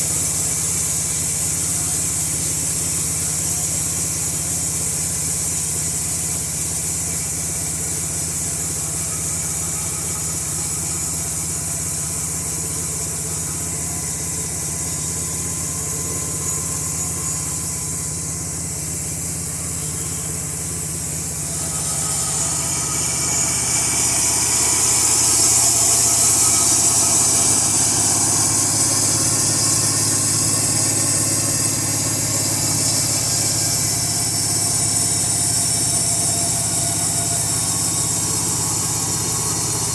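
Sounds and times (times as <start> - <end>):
petrol engine running: 0.0 - 39.9
high hiss of blade cutting log: 0.1 - 39.9.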